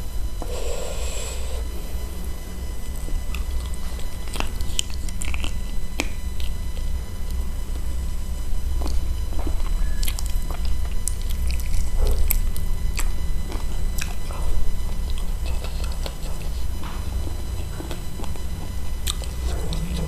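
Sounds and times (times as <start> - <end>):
low hum: 0.0 - 20.0
chewing and biting: 2.6 - 20.0.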